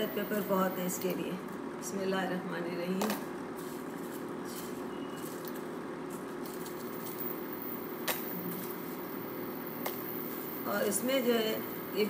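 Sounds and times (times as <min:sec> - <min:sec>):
induction cooktop hum: 0:00.0 - 0:12.0.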